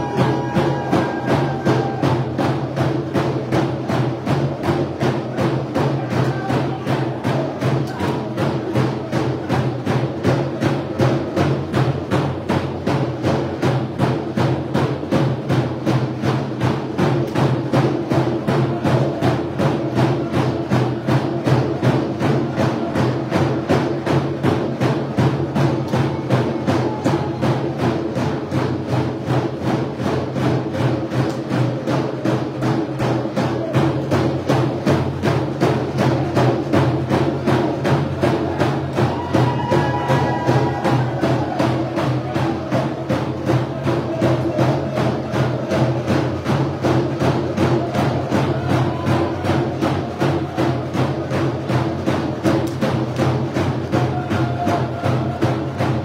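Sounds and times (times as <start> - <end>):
frame drums beating fast: 0.0 - 56.0.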